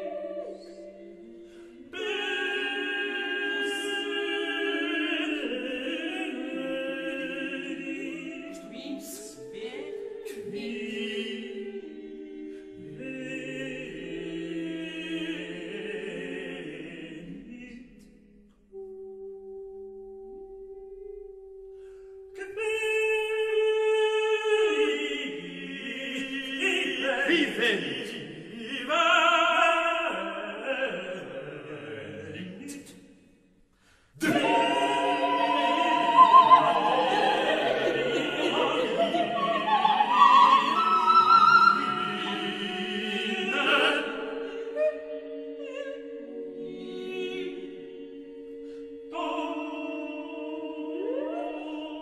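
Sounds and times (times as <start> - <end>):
unaccompanied choir singing: 0.0 - 18.9, 23.4 - 33.0, 34.2 - 52.0.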